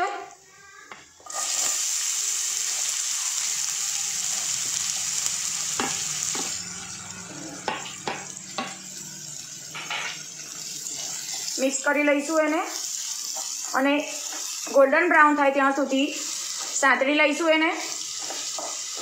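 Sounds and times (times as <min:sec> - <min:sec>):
onion sizzling in hot oil: 0:01.2 - 0:19.0.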